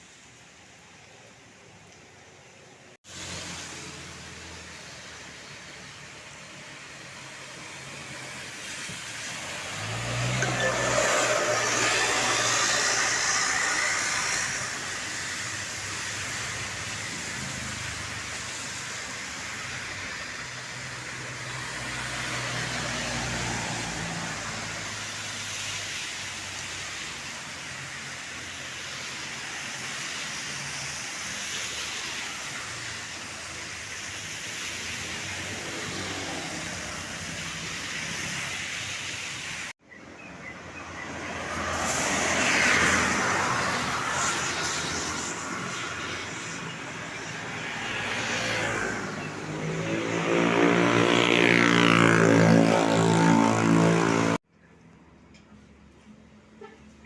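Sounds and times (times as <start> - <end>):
passing vehicles rumbling: 3.0 - 55.1.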